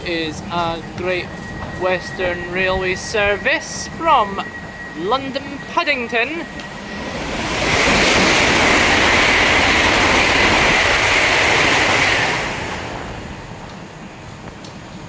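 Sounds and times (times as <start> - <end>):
steady high hiss: 0.0 - 15.0
train passing at speed: 0.0 - 15.0.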